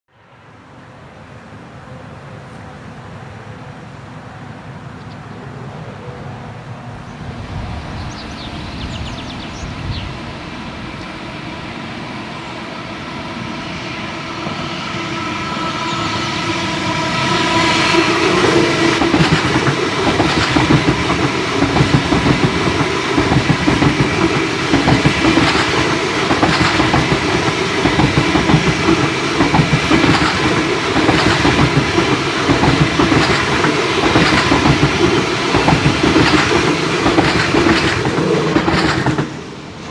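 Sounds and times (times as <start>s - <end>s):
train passing with wheel clatter: 0.1s - 39.9s.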